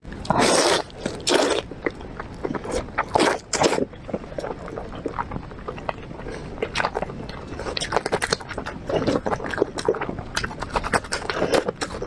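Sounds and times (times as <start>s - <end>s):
wet bites and mouth sounds: 0.2s - 12.0s
soft chewing smacks: 0.3s - 12.0s.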